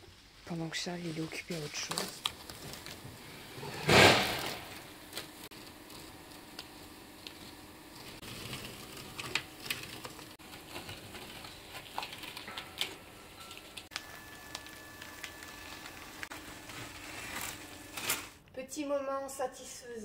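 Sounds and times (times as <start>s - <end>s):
tape and plastic sheeting peeling: 1.1s - 18.4s.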